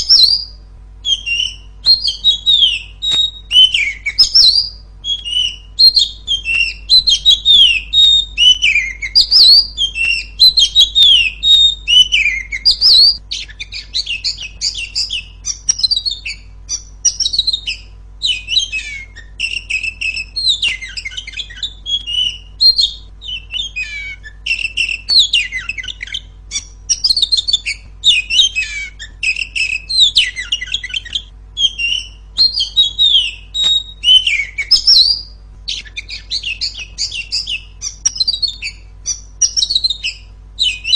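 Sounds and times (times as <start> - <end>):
bird singing chirps and whistles: 0.0 - 40.9
steady low hum: 0.0 - 40.9.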